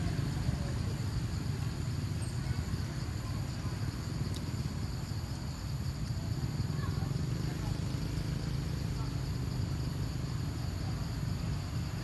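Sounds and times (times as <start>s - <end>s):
insect drone: 0.0s - 12.0s
low outdoor rumble: 0.0s - 12.0s.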